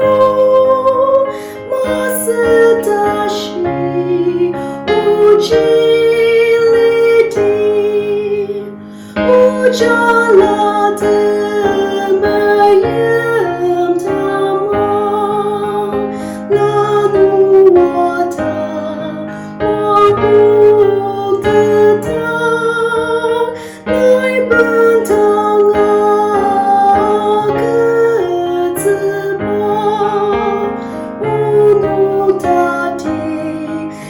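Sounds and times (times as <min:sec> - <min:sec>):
keyboard accompaniment: 0:00.0 - 0:34.0
woman singing: 0:00.0 - 0:34.0.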